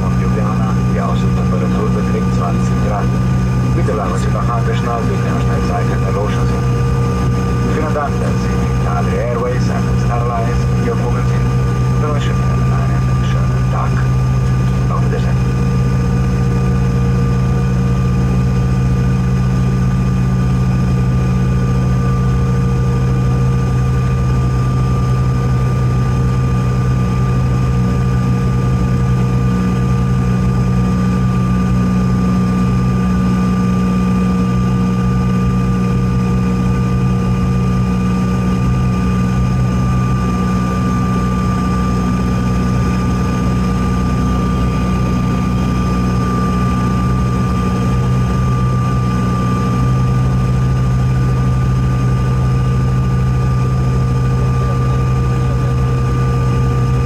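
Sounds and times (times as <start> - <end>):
jet engine drone: 0.0 - 57.0
thin steady whine: 0.0 - 57.0.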